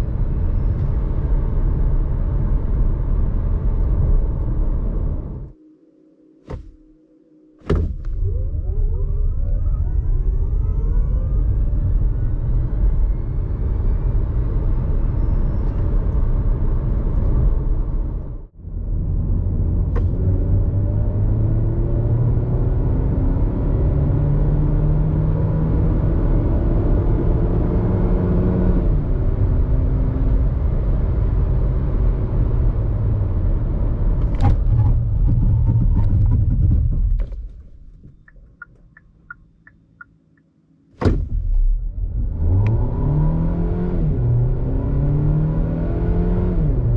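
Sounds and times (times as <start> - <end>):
car engine accelerating: 7.9 - 40.1, 41.1 - 46.9.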